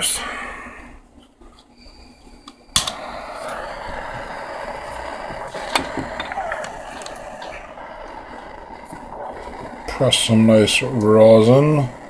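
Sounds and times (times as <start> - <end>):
torch flame hissing: 1.8 - 12.0.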